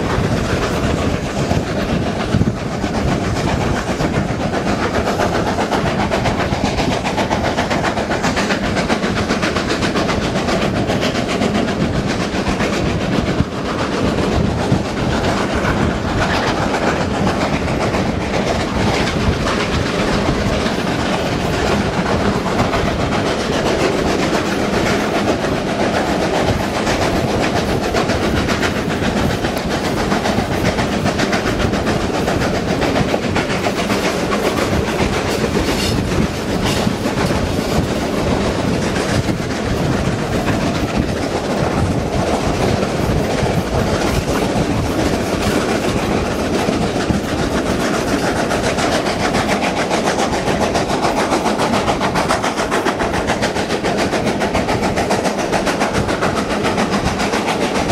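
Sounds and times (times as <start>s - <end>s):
carriage wheels clattering on rails: 0.0s - 57.9s.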